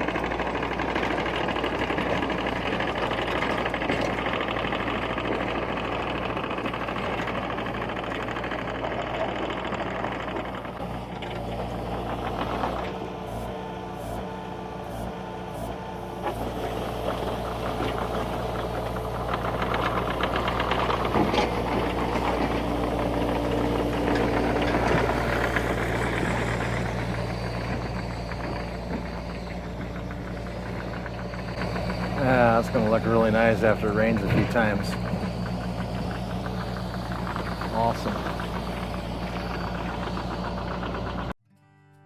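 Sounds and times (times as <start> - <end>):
excavator diesel engine running: 0.0 - 41.4.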